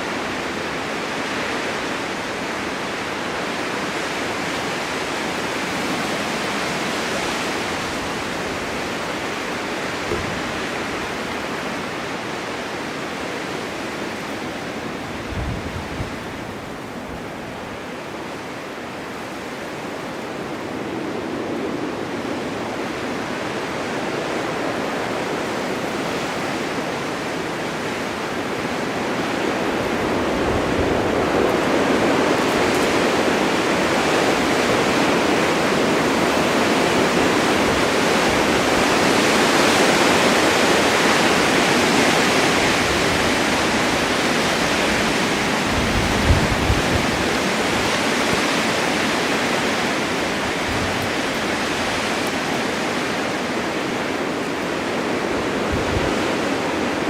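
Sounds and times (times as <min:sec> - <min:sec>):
blizzard wind rushing: 0:00.0 - 0:57.0.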